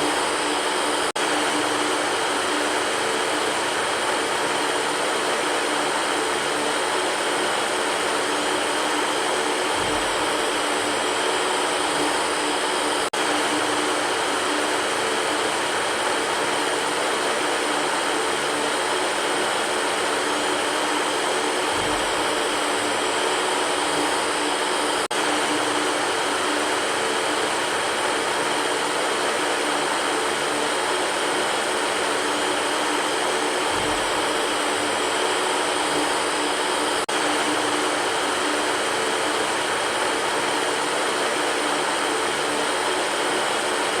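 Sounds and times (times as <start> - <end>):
electric fan running: 0.0 - 44.0.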